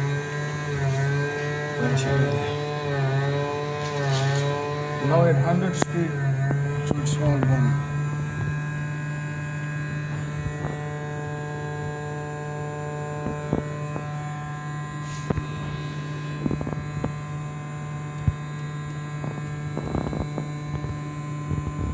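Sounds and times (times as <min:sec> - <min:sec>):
small electric motor humming: 0:00.0 - 0:21.9.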